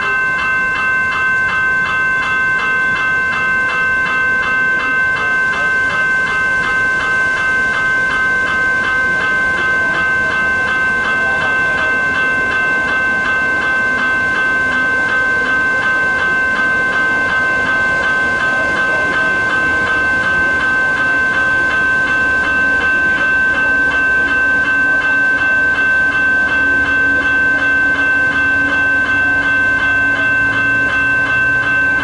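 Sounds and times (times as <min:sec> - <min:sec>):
level crossing bells ringing: 0:00.0 - 0:32.0.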